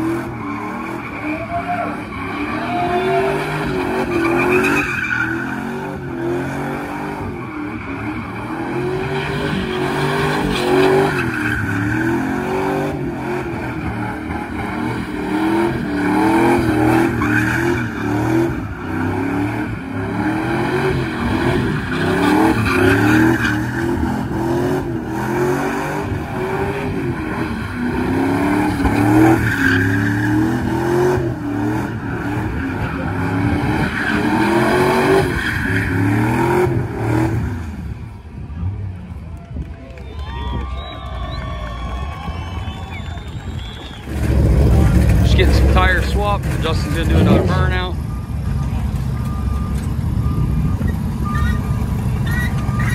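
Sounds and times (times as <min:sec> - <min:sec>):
truck engine revving: 0:00.0 - 0:38.0, 0:42.3 - 0:52.9
tires squealing on pavement: 0:00.0 - 0:38.1, 0:39.8 - 0:52.9.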